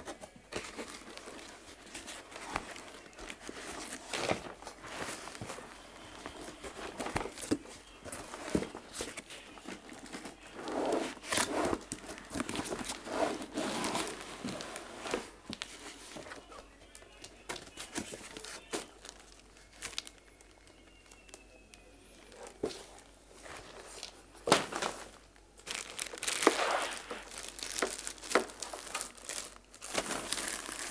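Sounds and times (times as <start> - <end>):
plastic and cardboard rustling: 0.0 - 30.9.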